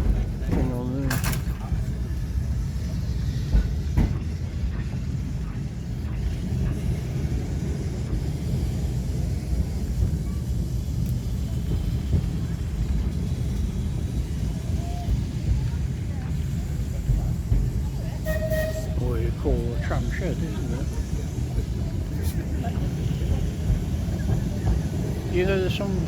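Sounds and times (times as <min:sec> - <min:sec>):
tram wheels rumbling on track: 0:00.0 - 0:26.0.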